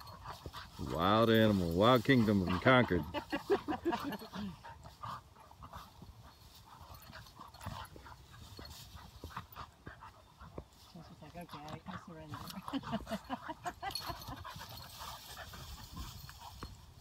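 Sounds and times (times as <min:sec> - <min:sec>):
rustling in dry grass: 0:00.0 - 0:17.0.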